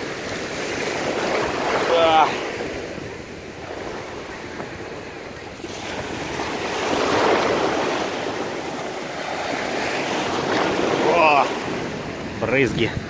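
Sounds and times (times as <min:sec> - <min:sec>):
wave breaking: 0:00.0 - 0:04.2, 0:05.2 - 0:12.4
surf washing over shallow water: 0:00.0 - 0:13.0.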